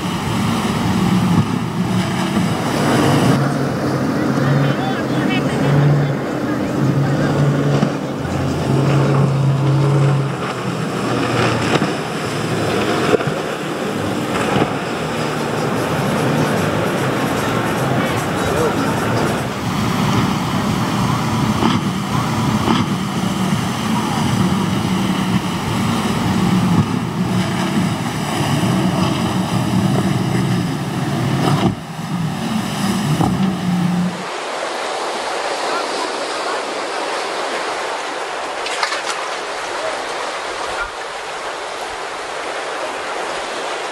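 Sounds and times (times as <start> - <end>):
motorboat engine drone: 0.0 - 43.9
rushing water and wind: 0.0 - 43.9.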